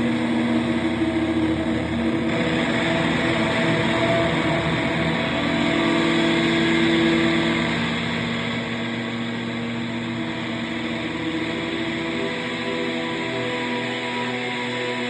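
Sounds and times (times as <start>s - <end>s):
low droning tones: 0.0s - 15.0s.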